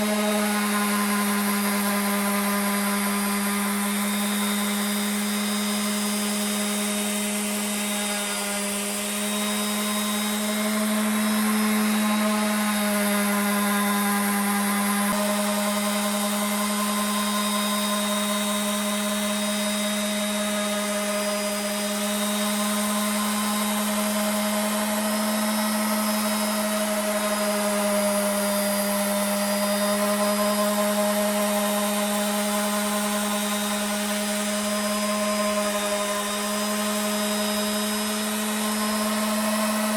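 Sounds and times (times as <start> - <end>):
power tool motor running: 0.0 - 39.9.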